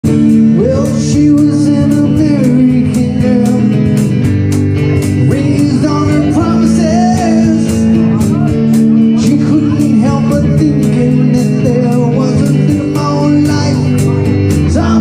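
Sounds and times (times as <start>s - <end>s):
man singing: 0.0s - 4.4s, 5.0s - 15.0s
acoustic guitar strummed: 0.0s - 15.0s
drum kit beat: 0.0s - 15.0s.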